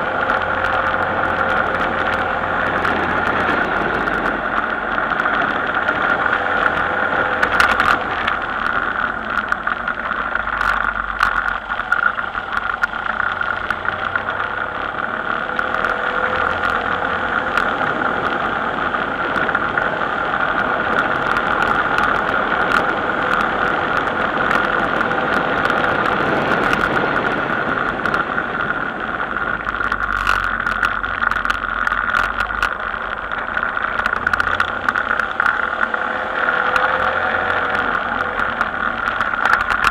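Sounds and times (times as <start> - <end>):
road noise: 0.0 - 39.9
vehicle engine: 0.0 - 39.9.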